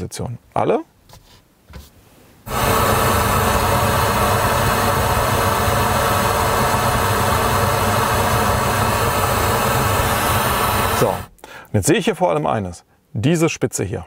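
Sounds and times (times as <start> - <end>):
pink noise hiss from speakers: 1.7 - 14.0.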